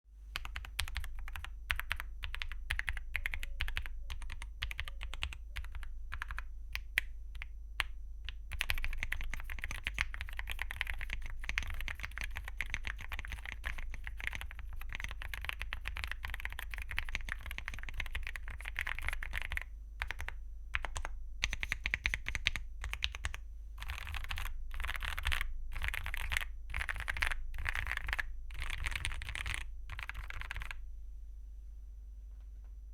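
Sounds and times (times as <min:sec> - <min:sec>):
typing on a mechanical keyboard: 0:00.3 - 0:30.8.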